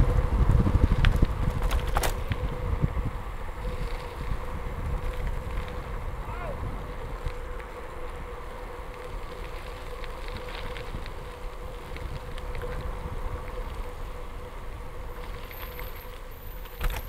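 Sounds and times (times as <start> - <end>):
bicycle tyres on gravel: 0.0 - 17.0
wind buffeting microphone: 0.0 - 17.0.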